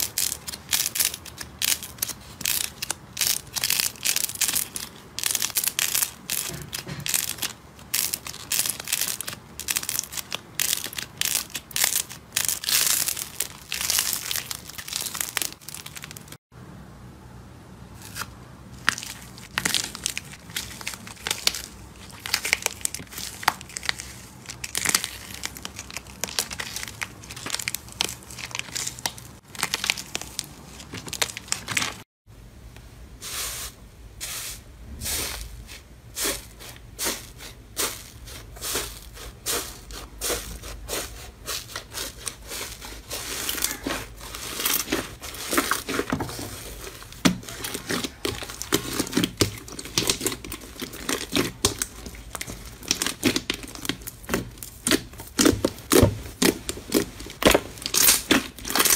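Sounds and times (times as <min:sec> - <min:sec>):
crispy slime crackling: 0:00.0 - 0:16.4, 0:18.0 - 0:32.0, 0:36.2 - 0:58.9
palms pressing crusted slime: 0:00.0 - 0:16.4, 0:18.0 - 0:32.0, 0:36.2 - 0:58.9.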